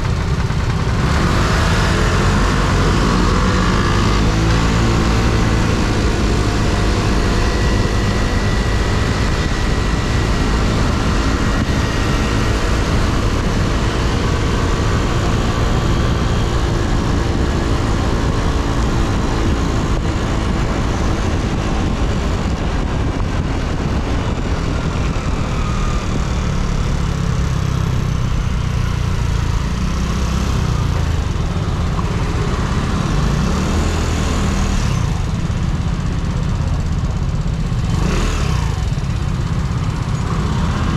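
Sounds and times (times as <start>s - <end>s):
scooter engine running: 0.0s - 40.9s
wind and road noise: 0.0s - 40.9s.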